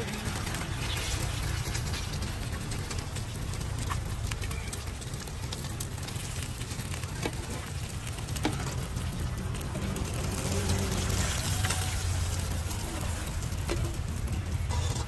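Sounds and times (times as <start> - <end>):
eggs sizzling on a griddle: 0.0 - 15.0
sharp pops from frying: 0.0 - 15.0.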